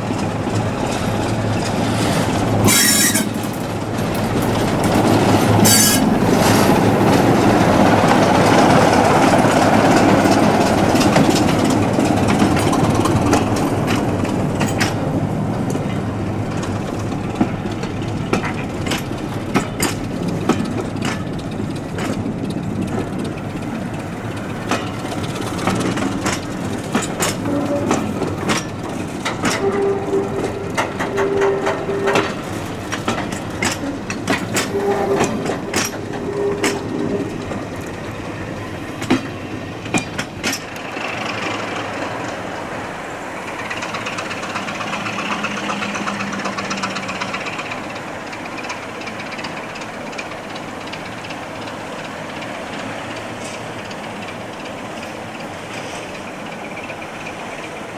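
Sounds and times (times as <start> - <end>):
diesel locomotive engine passing: 0.0 - 57.9
wheels clattering over rail joints: 0.0 - 57.9.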